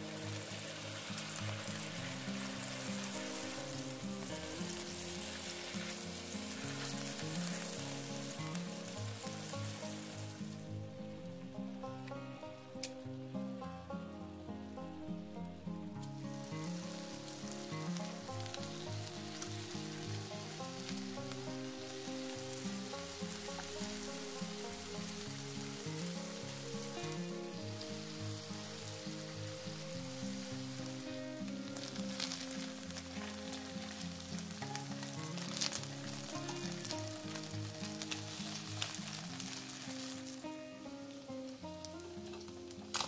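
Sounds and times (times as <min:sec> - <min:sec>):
chicken sizzling on grill pan: 0:00.0 - 0:10.9, 0:16.0 - 0:43.0
background music: 0:00.0 - 0:43.0.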